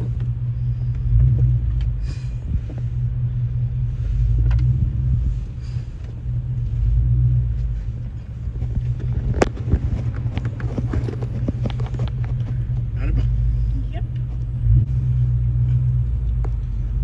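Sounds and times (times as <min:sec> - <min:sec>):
car exhaust rumbling: 0:00.0 - 0:17.0.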